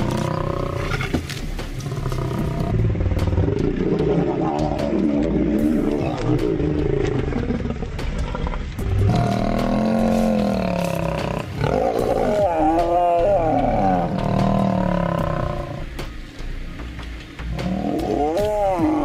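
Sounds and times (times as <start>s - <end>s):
lions snarling and growling: 0.0s - 15.9s, 17.6s - 19.0s.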